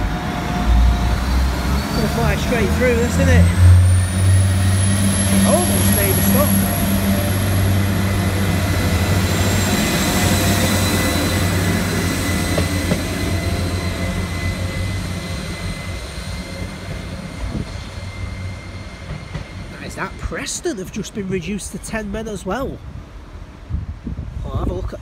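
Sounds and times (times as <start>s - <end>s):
diesel train engine drone: 0.0s - 24.1s
train rolling noise: 0.0s - 24.4s.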